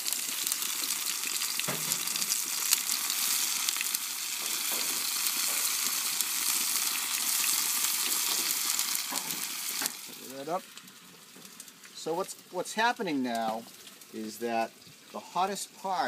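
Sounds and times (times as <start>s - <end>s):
oil popping: 0.0s - 12.5s, 13.3s - 15.2s
vegetables sizzling in hot oil: 0.0s - 16.0s.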